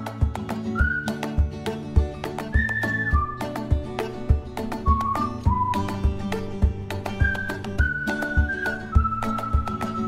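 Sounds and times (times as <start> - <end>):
whistle-like melody: 0.0 - 1.6, 2.2 - 10.0
steady thumping beat: 0.1 - 10.0.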